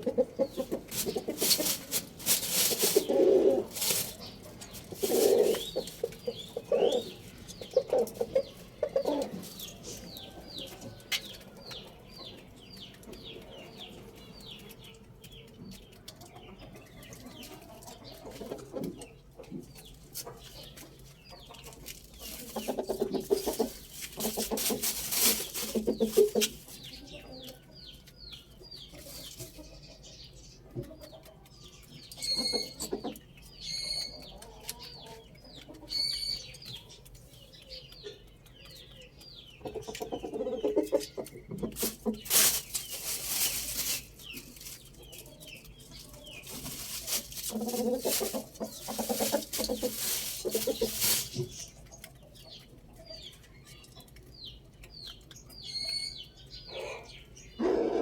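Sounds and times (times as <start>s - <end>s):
hens clucking: 0.0s - 58.0s
small birds chirping: 0.0s - 58.0s.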